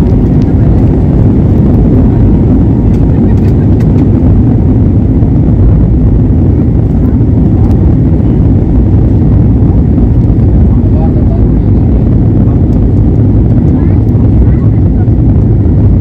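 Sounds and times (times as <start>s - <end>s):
jet engine and runway rumble: 0.0s - 16.0s.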